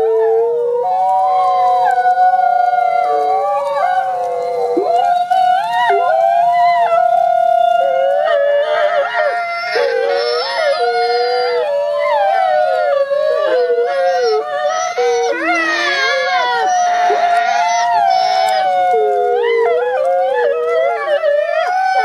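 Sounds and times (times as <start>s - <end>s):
wolves howling: 0.0s - 22.0s.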